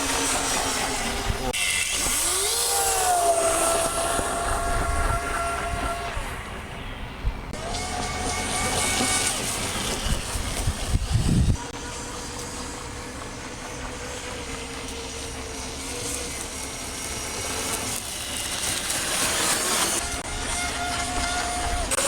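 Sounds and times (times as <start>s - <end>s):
model speedboat motor whining: 0.0s - 22.0s.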